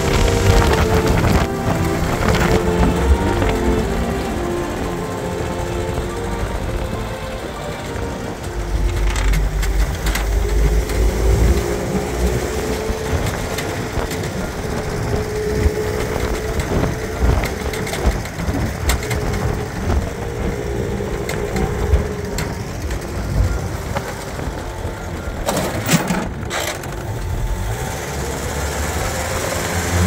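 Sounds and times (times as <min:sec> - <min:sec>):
car engine running: 0:00.0 - 0:30.0
wind buffeting microphone: 0:00.0 - 0:30.0.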